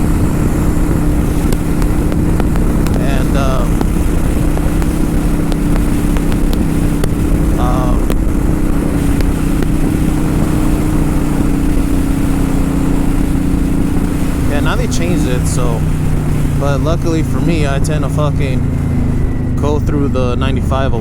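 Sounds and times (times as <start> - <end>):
motorcycle engine cruising: 0.0 - 21.0
road and wind noise: 0.0 - 21.0.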